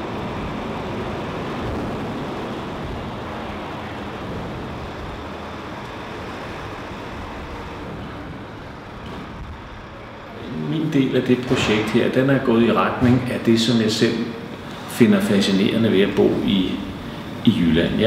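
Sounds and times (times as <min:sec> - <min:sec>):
ferry engines low drone: 0:00.0 - 0:18.0.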